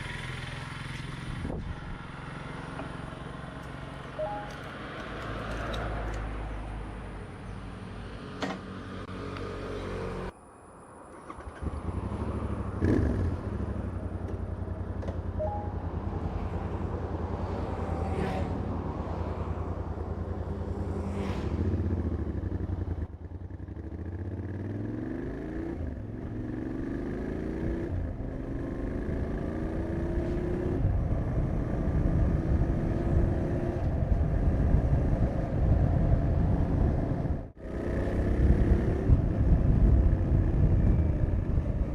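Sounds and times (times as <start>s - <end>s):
motorcycle engine idling and revving: 0.0s - 10.4s, 11.1s - 41.9s.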